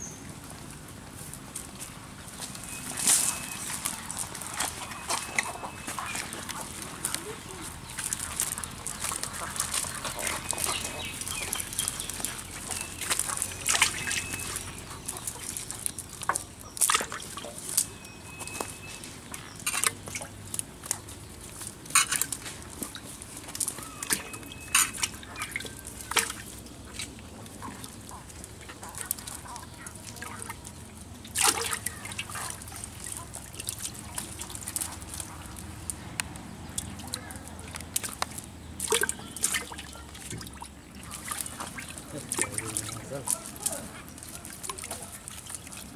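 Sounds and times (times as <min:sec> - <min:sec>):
fish flapping and slapping: 0:01.3 - 0:45.9.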